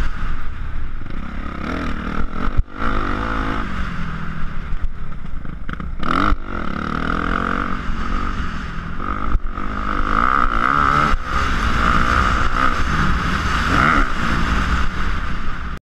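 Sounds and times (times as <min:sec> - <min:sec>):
dirt bike engine revving: 0:00.0 - 0:15.8.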